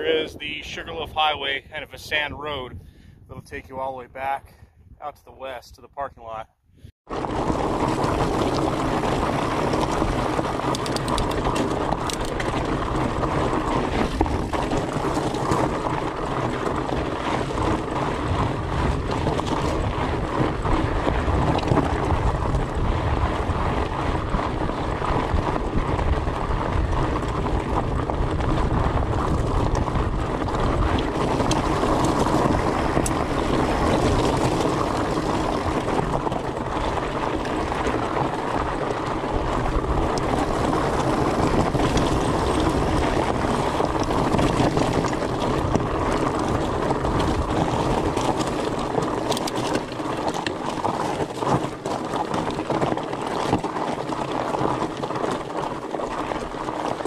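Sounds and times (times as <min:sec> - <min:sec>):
wind rushing over microphone: 0:00.0 - 0:05.1, 0:06.7 - 0:55.0
bike tyres crunching over gravel: 0:07.1 - 0:57.0.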